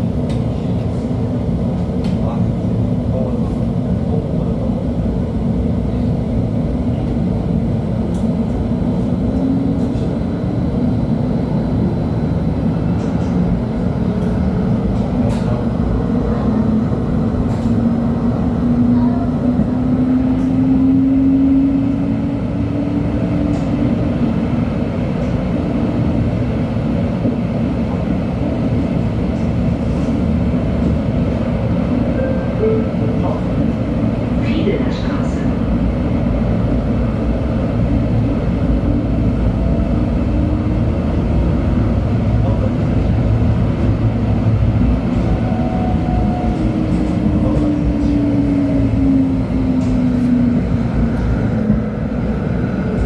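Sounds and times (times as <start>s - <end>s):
light-rail motor whine: 0.0s - 53.0s
wheels rumbling on track: 0.0s - 53.0s.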